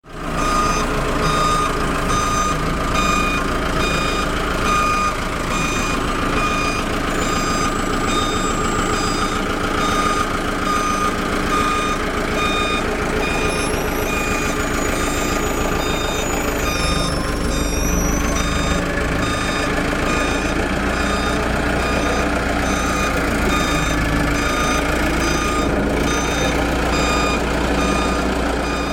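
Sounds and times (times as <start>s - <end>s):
truck engine rumble: 0.0s - 28.9s
truck reversing alarm beeping: 0.1s - 28.9s.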